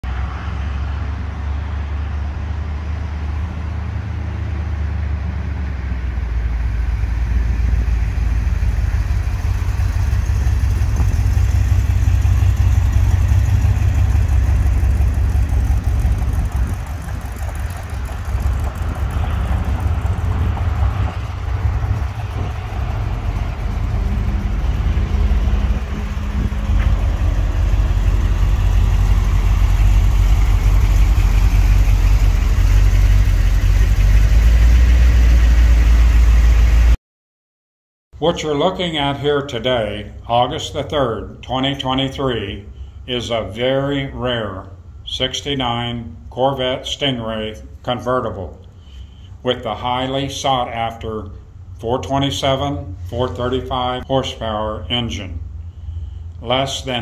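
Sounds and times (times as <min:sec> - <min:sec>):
car engine driving slowly: 0:00.0 - 0:37.0, 0:38.2 - 0:57.0.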